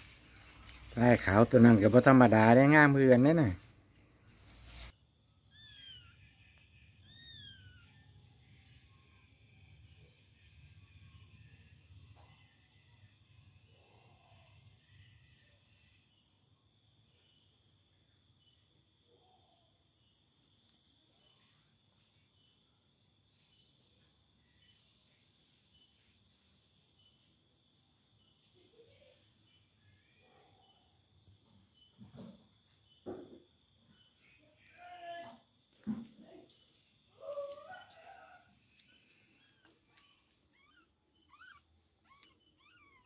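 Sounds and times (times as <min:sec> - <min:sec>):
night insects chirping: 0:00.0 - 0:03.6, 0:04.4 - 0:43.0.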